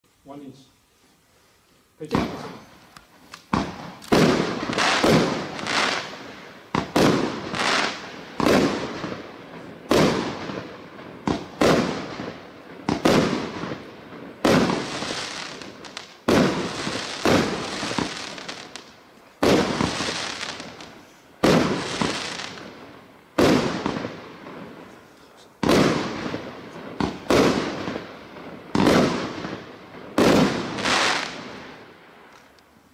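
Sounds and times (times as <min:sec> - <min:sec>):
firework crackle: 0:00.2 - 0:32.9
firework bangs: 0:02.0 - 0:02.8, 0:03.4 - 0:32.4.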